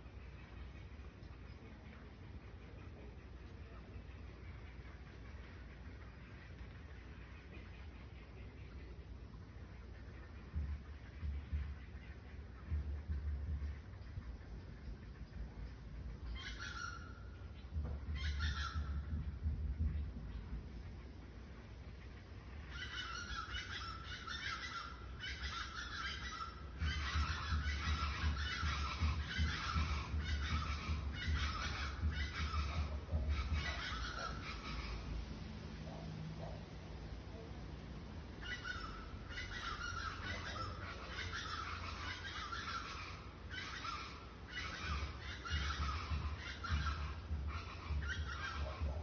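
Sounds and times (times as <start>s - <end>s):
chorus of birds calling: 0.0s - 49.0s
low rumble: 6.8s - 24.0s, 24.7s - 42.1s, 42.7s - 49.0s.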